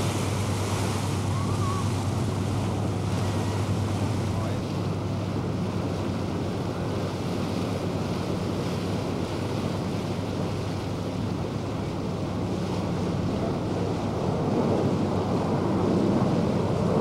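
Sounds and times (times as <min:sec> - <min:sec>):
boat engine hum: 0:00.0 - 0:17.0
water wash: 0:00.0 - 0:17.0
wind buffeting microphone: 0:00.0 - 0:17.0.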